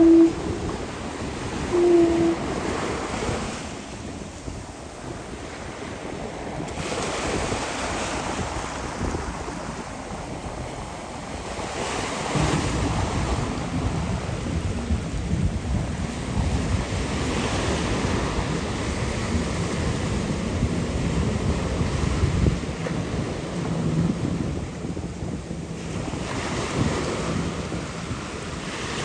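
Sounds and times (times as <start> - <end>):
rushing water: 0.0 - 29.0
wind buffeting microphone: 0.0 - 29.0.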